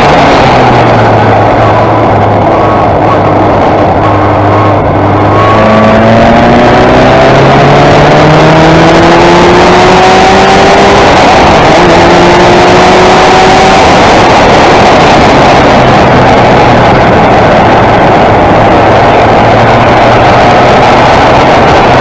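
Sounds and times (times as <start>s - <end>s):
racing car engine accelerating: 0.0s - 22.0s.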